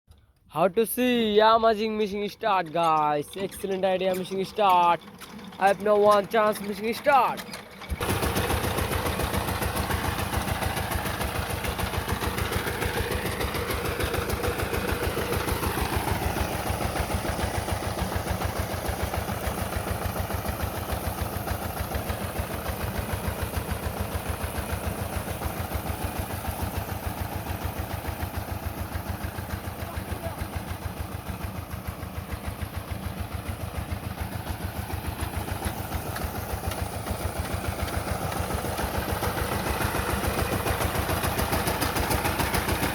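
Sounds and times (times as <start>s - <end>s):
diesel engine idling: 0.5s - 42.9s.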